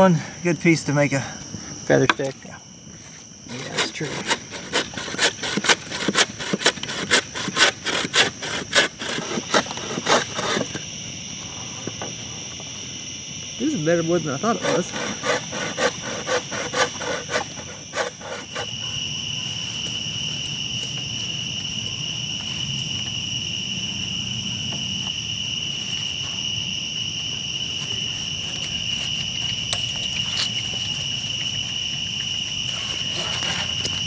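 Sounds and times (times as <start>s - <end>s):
high insect pulsing: 0.0s - 34.0s
insect trill: 0.0s - 34.0s.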